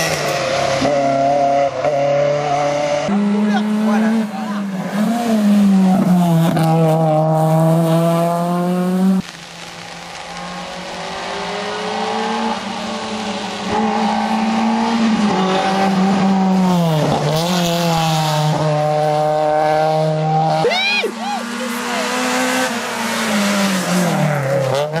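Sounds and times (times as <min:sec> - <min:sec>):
rally car engines at full throttle: 0:00.0 - 0:25.0.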